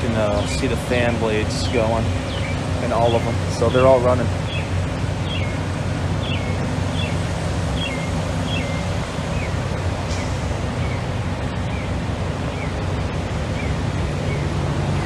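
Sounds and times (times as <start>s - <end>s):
bird chirping: 0.0s - 15.0s
low outdoor rumble: 0.0s - 15.0s.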